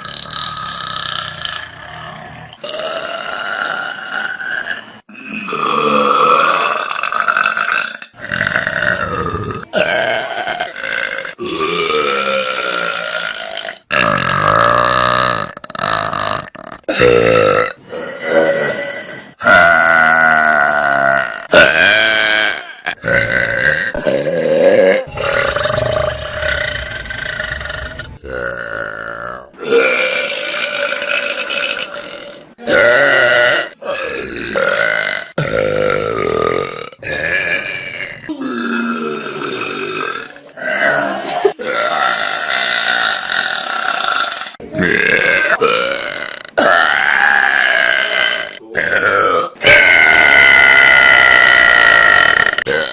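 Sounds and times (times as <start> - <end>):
person burping loudly: 0.0 - 52.9.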